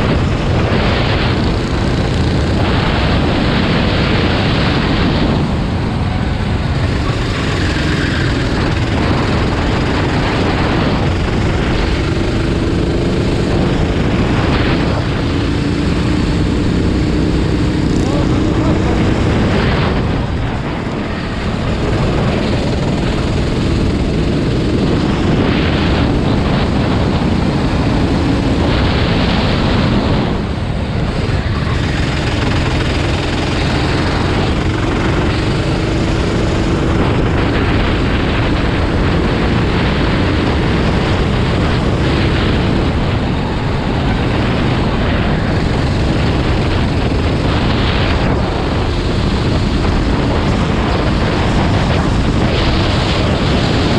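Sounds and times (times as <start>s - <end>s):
racing engines running: 0.0s - 53.9s.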